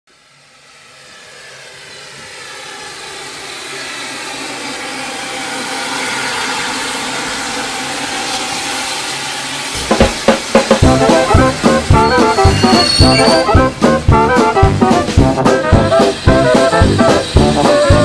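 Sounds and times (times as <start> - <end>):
model locomotive motor whirring: 0.2 - 18.0.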